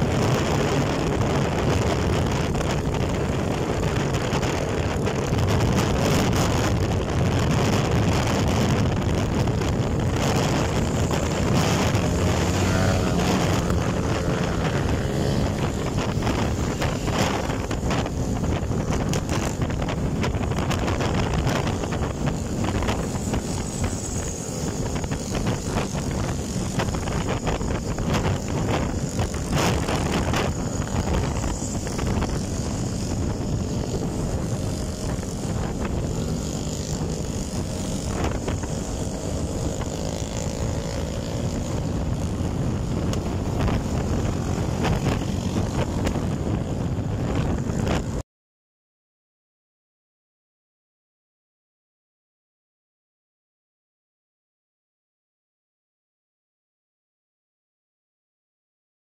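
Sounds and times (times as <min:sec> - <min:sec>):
motorcycle engines cruising: 0:00.0 - 0:48.2
wind buffeting microphone: 0:00.0 - 0:48.2.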